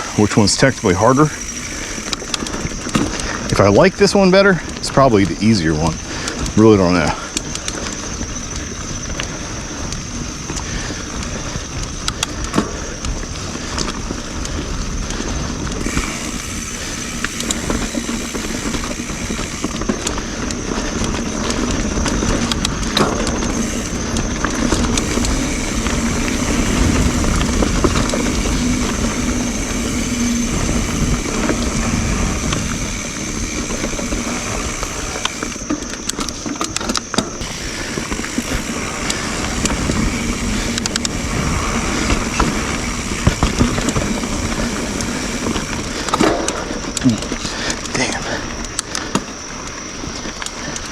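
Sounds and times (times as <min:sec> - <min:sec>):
bike clicking and rattling: 0:00.0 - 0:50.9
tyre and wind noise: 0:00.0 - 0:50.9.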